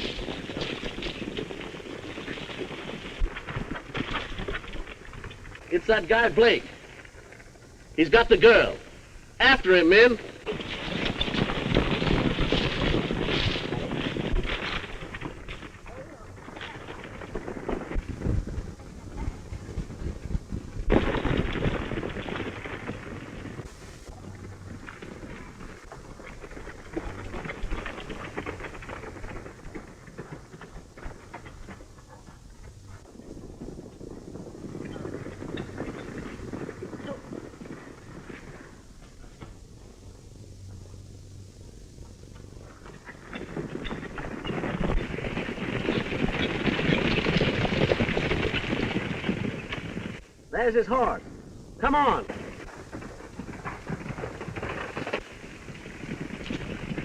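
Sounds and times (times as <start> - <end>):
horses galloping: 0.0 - 57.0.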